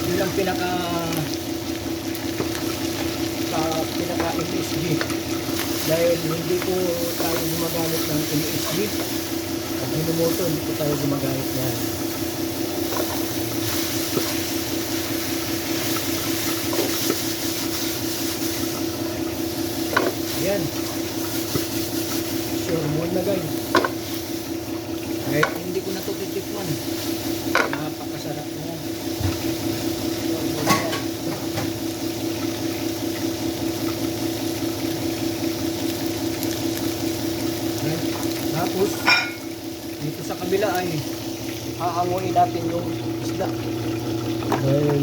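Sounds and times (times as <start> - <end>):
stir-fry hissing in a pan: 0.0 - 43.5
pulsing mechanical hum: 0.0 - 45.0.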